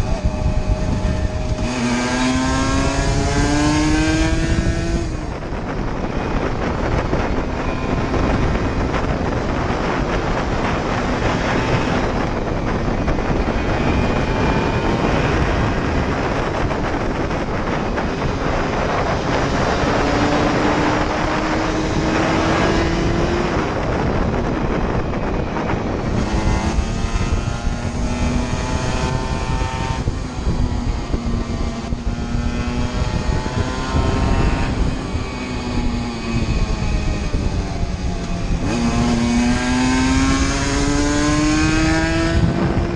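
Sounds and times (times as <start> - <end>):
two-stroke motorcycle engine revving: 0.0 - 42.9
wind noise: 0.0 - 42.9.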